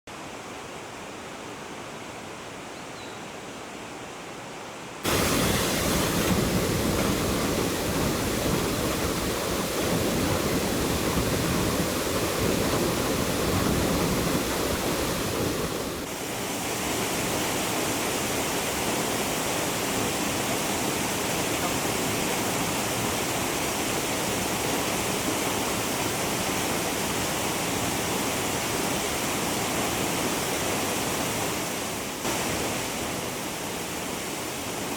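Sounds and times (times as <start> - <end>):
waterfall rushing water: 4.2 - 34.9.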